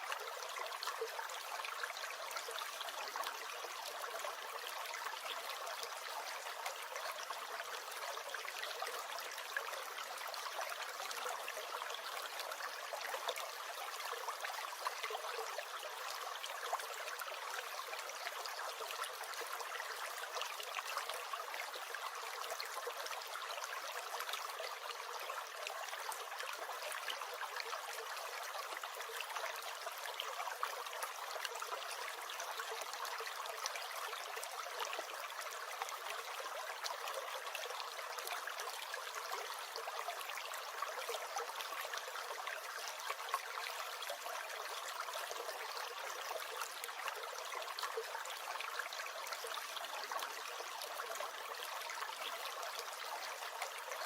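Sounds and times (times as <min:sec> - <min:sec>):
stream gurgling and trickling: 0:00.0 - 0:54.0.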